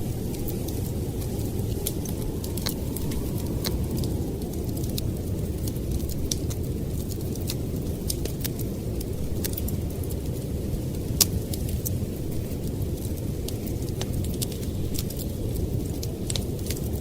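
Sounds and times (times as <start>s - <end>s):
storm wind rumble: 0.0s - 17.0s
wood fire crackling and popping: 0.0s - 17.0s.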